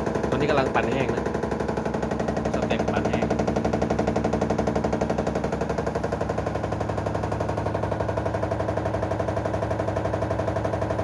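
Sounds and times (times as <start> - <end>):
washing machine rattling drone: 0.0 - 11.0.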